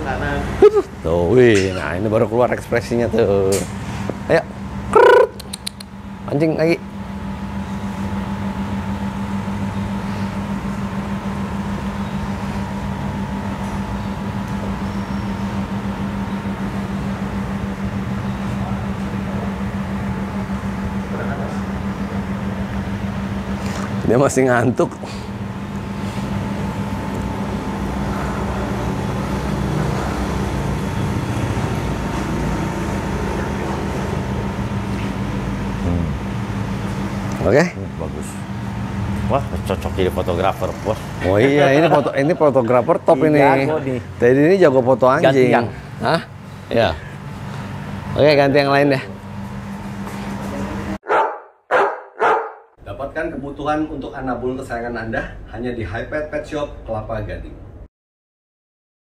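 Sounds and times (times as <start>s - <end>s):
machine hum with low drone: 0.0s - 51.0s, 52.8s - 57.9s.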